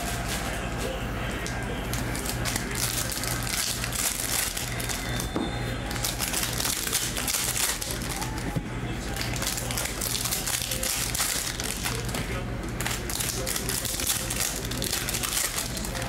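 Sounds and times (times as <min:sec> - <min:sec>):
foil wrapper crinkling and tearing: 0:00.0 - 0:00.8, 0:01.4 - 0:05.3, 0:05.9 - 0:08.5, 0:09.1 - 0:16.0.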